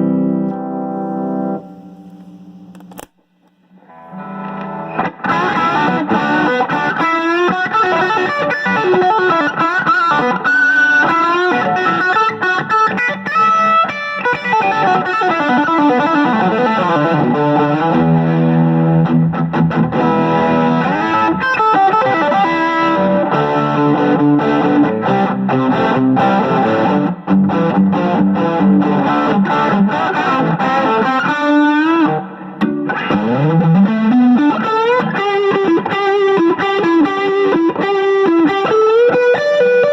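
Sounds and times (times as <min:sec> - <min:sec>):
electric guitar riffs: 0:00.0 - 0:39.9.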